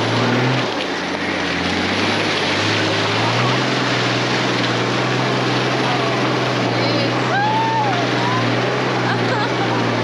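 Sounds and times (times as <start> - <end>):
engine pulling under load: 0.0 - 10.0
loud steady rush of noise: 0.0 - 10.0.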